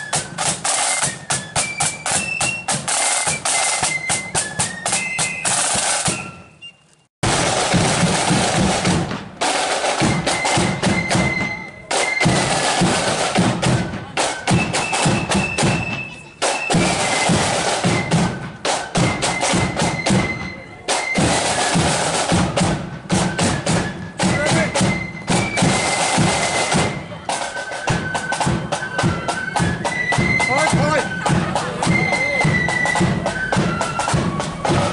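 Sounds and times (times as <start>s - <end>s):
snare and bass drum beats: 0.0s - 6.4s, 7.2s - 34.9s
flute melody: 0.0s - 7.1s, 9.5s - 34.9s.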